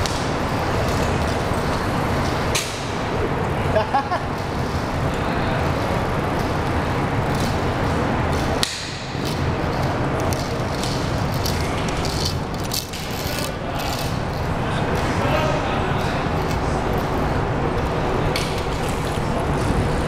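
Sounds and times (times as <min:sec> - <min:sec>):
highway traffic rumble: 0:00.0 - 0:20.0.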